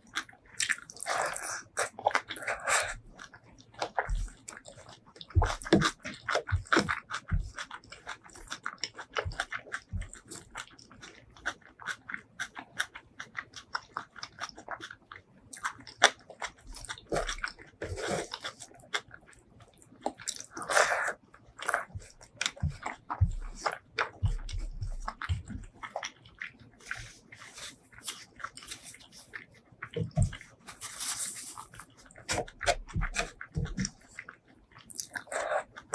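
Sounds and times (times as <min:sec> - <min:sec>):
mouth clicks and smacks: 0:00.0 - 0:35.9
wet chewing: 0:00.0 - 0:35.9.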